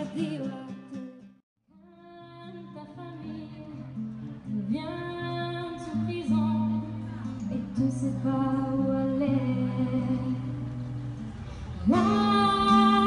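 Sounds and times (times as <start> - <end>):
woman singing: 0.0 - 10.6, 11.8 - 13.0
acoustic guitar: 0.0 - 13.0.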